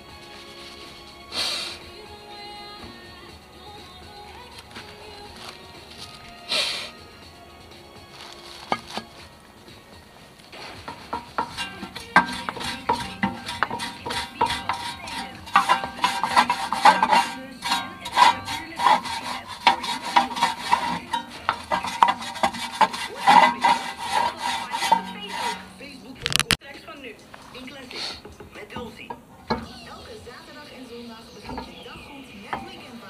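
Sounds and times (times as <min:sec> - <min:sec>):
wire brush scraping metal: 0:00.0 - 0:03.1, 0:03.7 - 0:26.6, 0:27.4 - 0:33.0.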